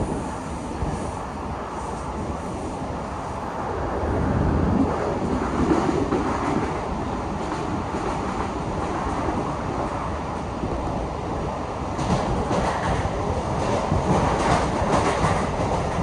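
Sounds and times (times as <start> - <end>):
passing train: 0.0 - 16.0
subway wheels rumbling on rails: 0.0 - 16.0.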